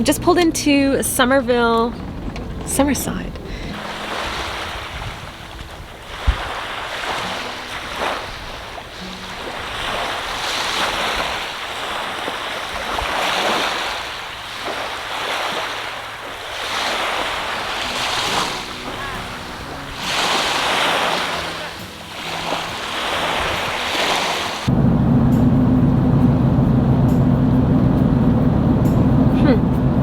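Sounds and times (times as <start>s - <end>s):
ocean waves on shore: 0.0s - 30.0s
wind buffeting microphone: 0.0s - 30.0s.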